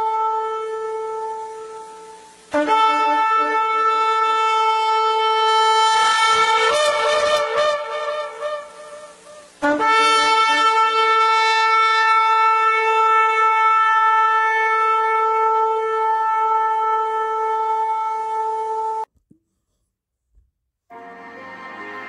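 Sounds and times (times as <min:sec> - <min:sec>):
long horn blast: 0:00.0 - 0:19.1.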